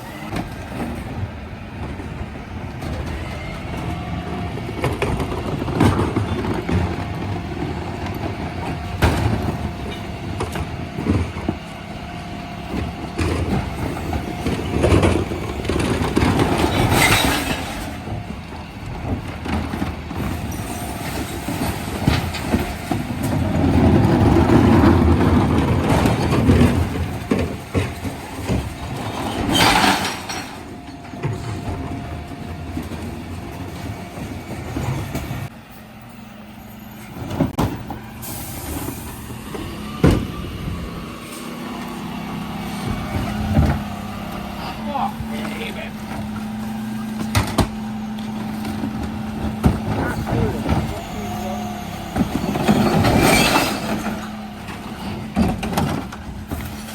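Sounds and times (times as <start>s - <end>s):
recycling clattering into truck: 0.0s - 35.5s, 37.1s - 56.9s
lorry engine whine: 0.0s - 56.9s.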